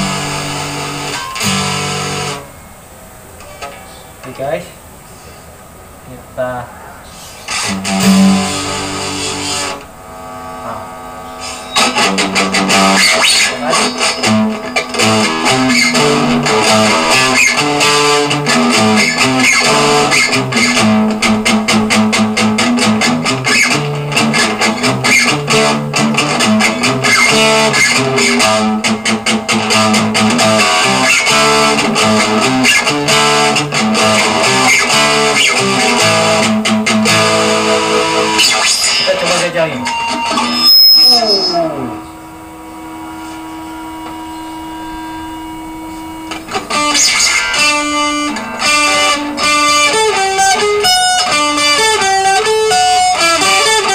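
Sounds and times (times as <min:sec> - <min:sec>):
guitar through amplifier: 0:00.0 - 0:53.9.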